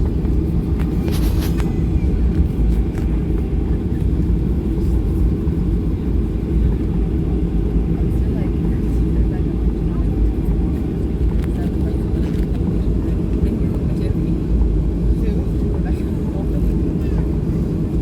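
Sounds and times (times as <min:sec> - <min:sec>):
airplane engines rumbling in cabin: 0:00.0 - 0:18.0.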